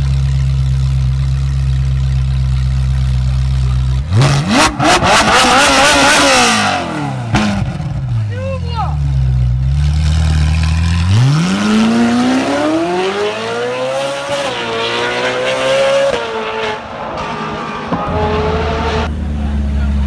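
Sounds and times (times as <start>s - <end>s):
sports car engine revving: 2.5s - 8.3s, 9.0s - 20.0s.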